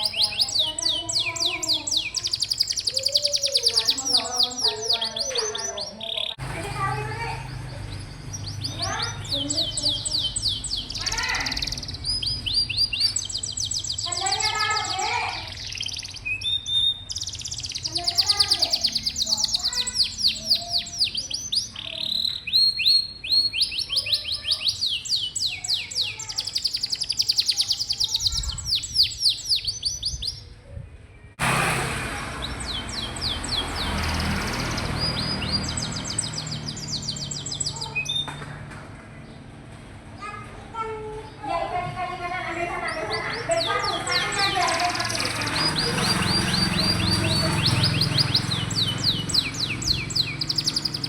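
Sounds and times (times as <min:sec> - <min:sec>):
canary singing trills: 0:00.0 - 0:38.4, 0:40.2 - 0:51.0.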